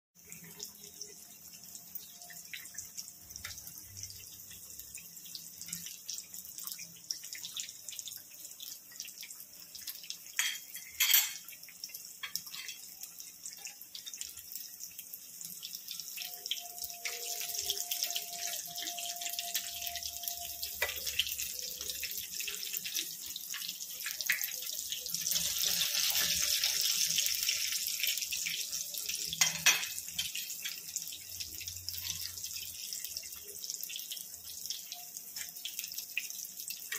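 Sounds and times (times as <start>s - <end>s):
food deep-frying in oil: 0.2s - 36.9s.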